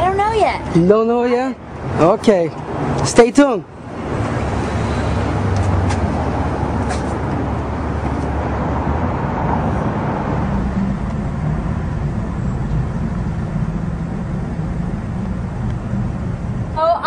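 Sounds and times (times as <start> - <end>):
low rumble of street noise: 0.0 - 17.0.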